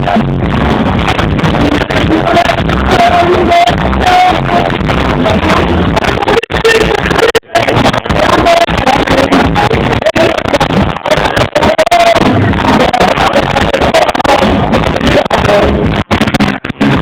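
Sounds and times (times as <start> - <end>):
distorted live reggae band: 0.0 - 17.0.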